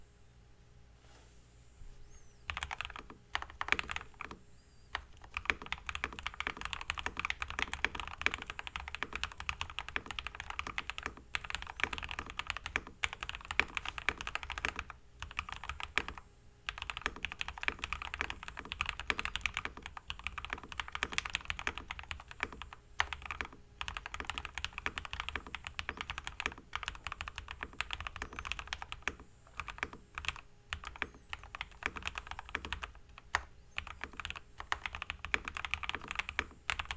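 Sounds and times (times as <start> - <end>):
fast mechanical keyboard typing: 2.5 - 36.9.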